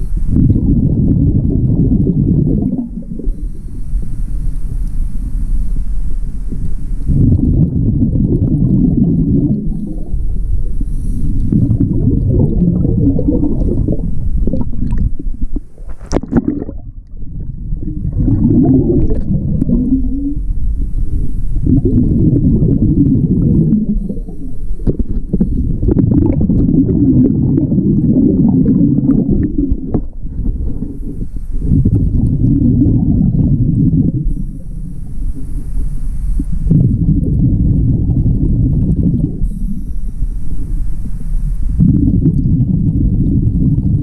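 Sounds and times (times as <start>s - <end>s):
exhaled bubbles underwater: 0.0s - 44.0s.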